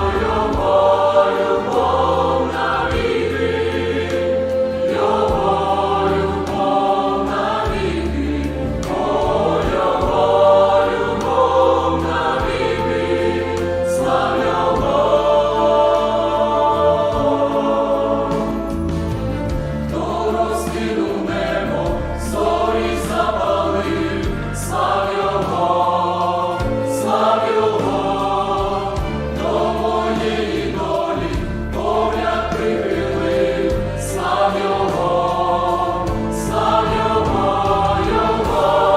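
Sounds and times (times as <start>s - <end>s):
choir singing a hymn: 0.0s - 38.9s
instrumental accompaniment with bass: 0.0s - 38.9s.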